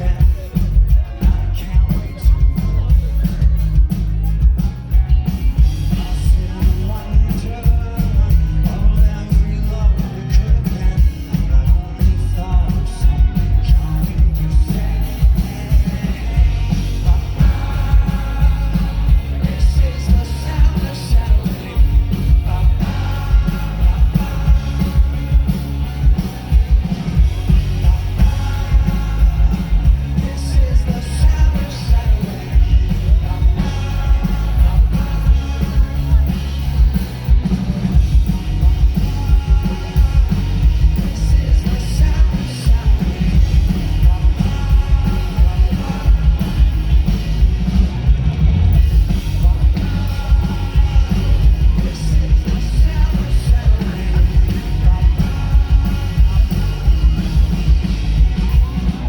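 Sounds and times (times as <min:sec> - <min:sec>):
live rock band: 0:00.0 - 0:59.0
male lead vocal: 0:00.0 - 0:59.0.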